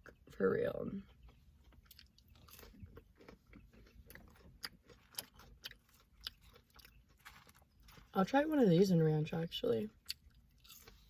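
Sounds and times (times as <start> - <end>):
chewing food: 0.0 - 8.2, 9.9 - 11.0.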